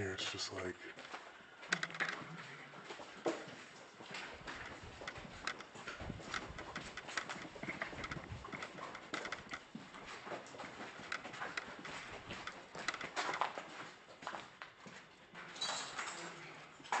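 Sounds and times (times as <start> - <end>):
footsteps on concrete: 0.9 - 15.4.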